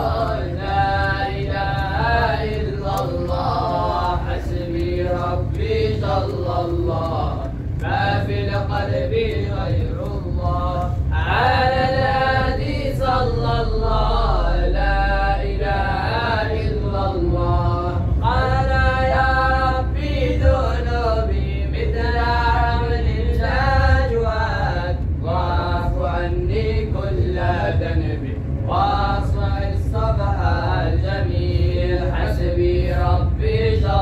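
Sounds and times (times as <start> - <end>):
low rumble: 0.0 - 34.0
voices chanting: 0.0 - 34.0.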